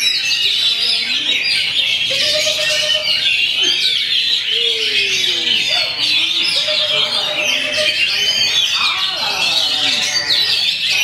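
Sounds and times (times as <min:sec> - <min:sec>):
low drawn-out bird notes: 0:00.0 - 0:11.0
songbirds chirping and trilling: 0:00.0 - 0:11.0.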